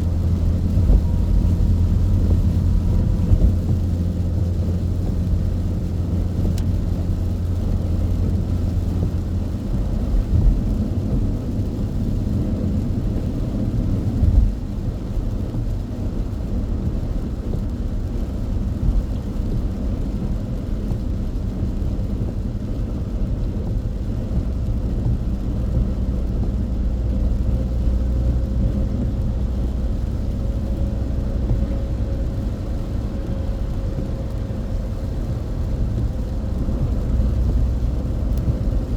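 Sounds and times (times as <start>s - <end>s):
engine and tyre rumble: 0.0s - 38.9s.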